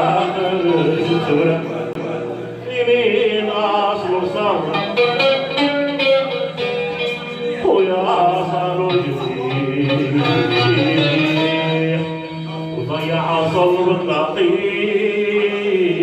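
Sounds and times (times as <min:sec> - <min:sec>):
live music with plucked strings: 0:00.0 - 0:16.0.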